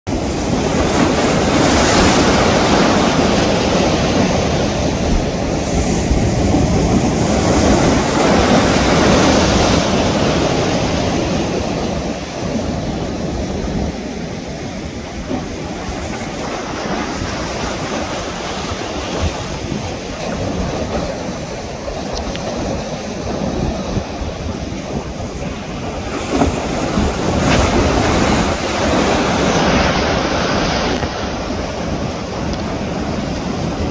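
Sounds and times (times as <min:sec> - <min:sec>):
ocean waves breaking: 0:00.1 - 0:33.9
wind on microphone: 0:00.1 - 0:33.9.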